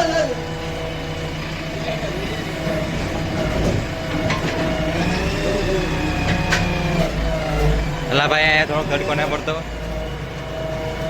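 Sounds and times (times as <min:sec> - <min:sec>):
engine humming with whine: 0:00.0 - 0:11.0.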